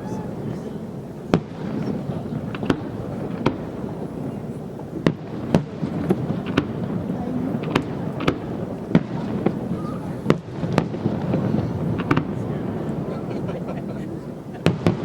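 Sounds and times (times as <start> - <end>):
background murmur: 0.0 - 15.0
fireworks bursting with bangs: 0.0 - 15.0.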